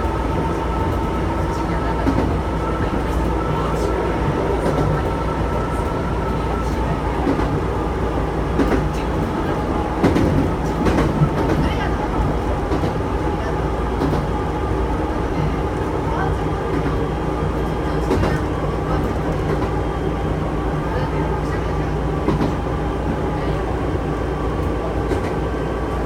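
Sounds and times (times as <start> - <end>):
train rumble with motor whine: 0.0 - 26.0.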